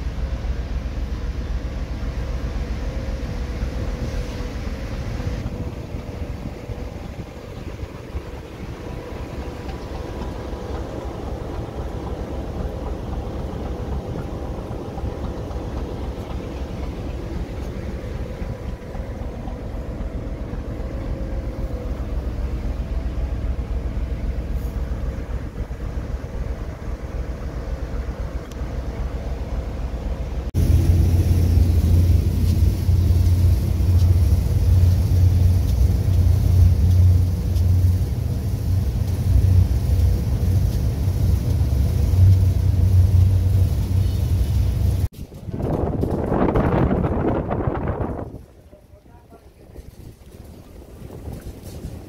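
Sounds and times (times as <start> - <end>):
deep wavering locomotive rumble: 0.0 - 52.0
train rumble: 0.0 - 52.0.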